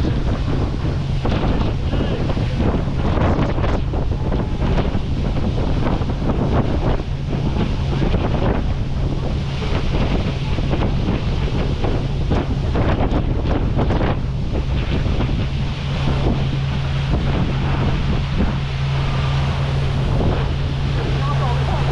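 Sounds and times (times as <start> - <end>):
boat engine low hum: 0.0 - 21.9
rushing water: 0.0 - 21.9
wind buffeting microphone: 0.0 - 21.9.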